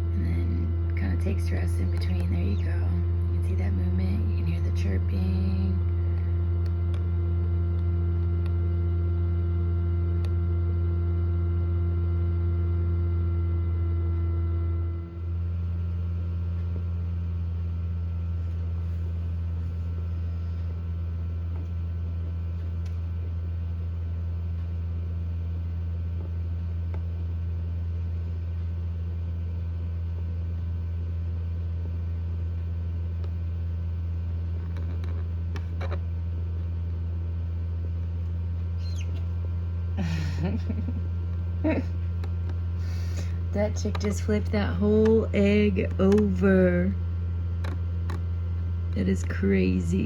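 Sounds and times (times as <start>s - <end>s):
incubator fan humming: 0.0s - 50.0s.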